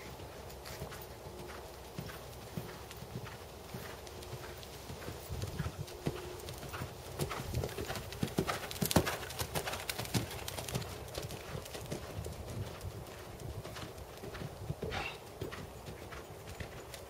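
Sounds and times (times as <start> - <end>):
horse hoofbeats on dirt: 0.0 - 17.0.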